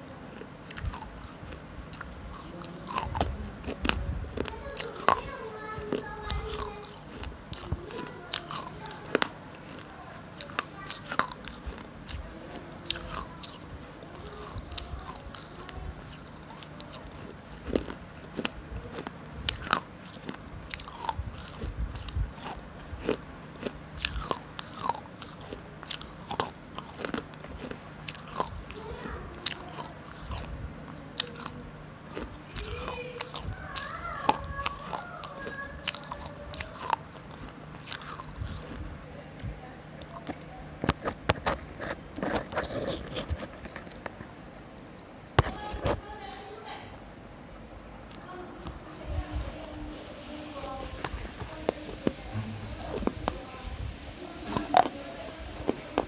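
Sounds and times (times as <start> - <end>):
person crunching and chewing food: 0.0 - 44.6, 45.4 - 46.0, 54.4 - 56.0.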